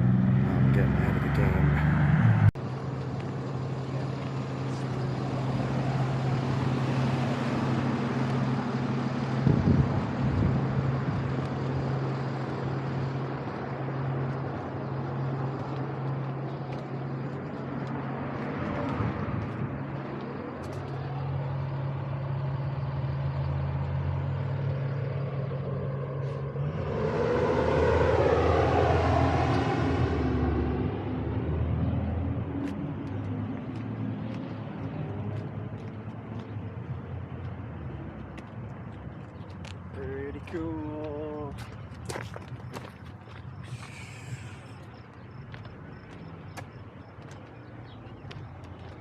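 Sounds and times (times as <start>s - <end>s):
vehicle engine running: 0.0s - 49.0s
vehicle passing by: 0.0s - 49.0s.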